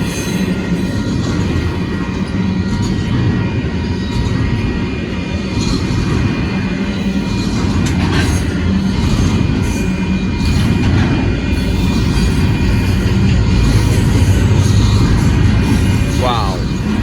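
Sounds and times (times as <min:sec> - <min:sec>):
freight train rumbling over rails: 0:00.0 - 0:17.0.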